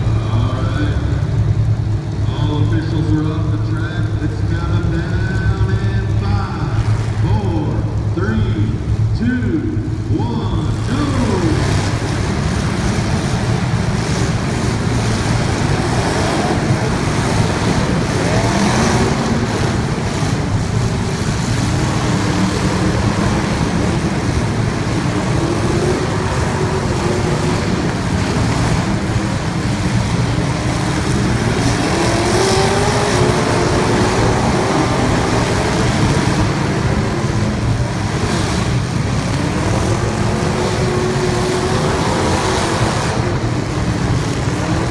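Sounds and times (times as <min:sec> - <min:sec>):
race car engines revving: 0:00.0 - 0:44.9.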